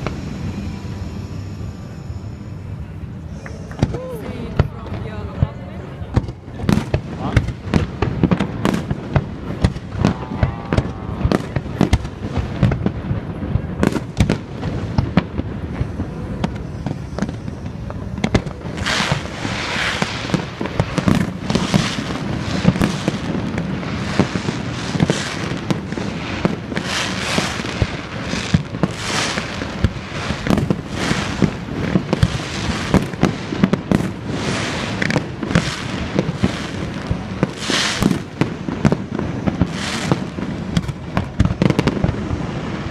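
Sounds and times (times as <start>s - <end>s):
booming rumble: 0.0s - 42.9s
fireworks bangs and cracks: 0.0s - 42.9s.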